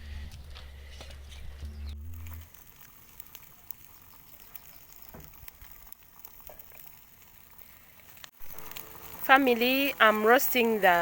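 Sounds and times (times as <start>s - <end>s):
cooking fire crackling: 0.0s - 11.0s.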